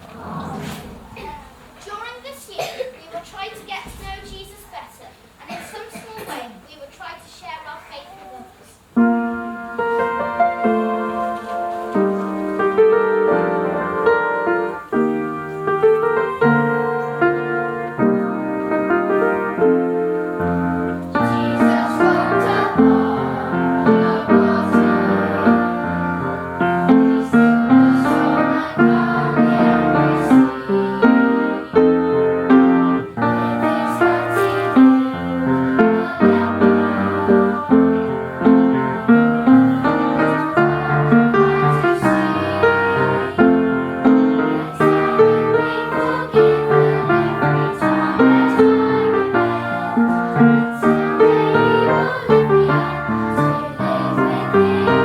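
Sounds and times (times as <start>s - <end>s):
piano chords and melody: 8.9s - 55.0s.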